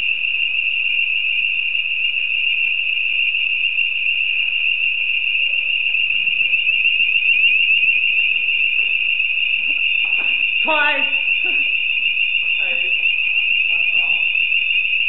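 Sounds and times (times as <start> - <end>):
fire alarm steady tone: 0.0 - 15.0.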